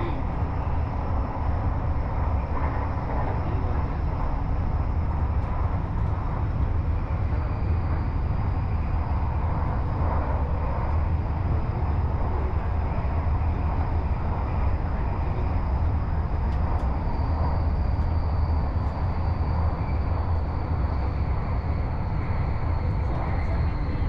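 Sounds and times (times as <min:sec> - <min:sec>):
faint high whine: 0:00.0 - 0:24.0
train wheels rumbling on rail: 0:00.0 - 0:24.0.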